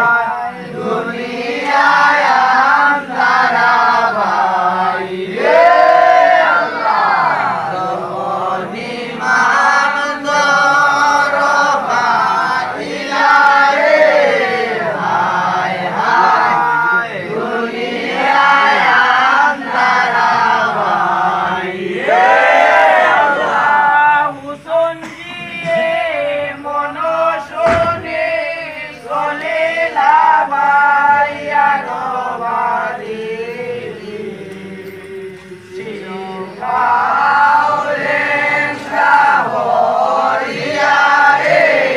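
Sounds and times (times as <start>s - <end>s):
group chanting a devotional song: 0.0s - 41.9s.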